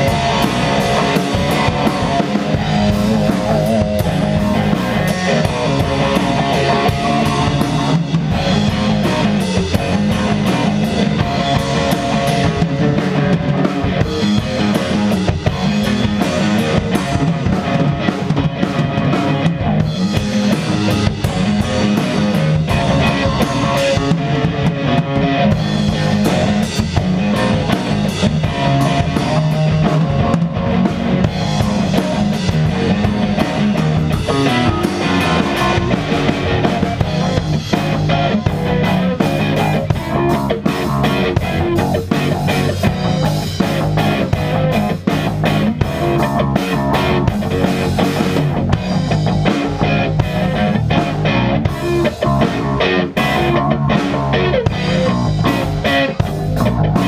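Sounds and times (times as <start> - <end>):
drum kit beat: 0.0 - 57.0
electric bass: 0.0 - 57.0
electric guitar: 0.0 - 57.0.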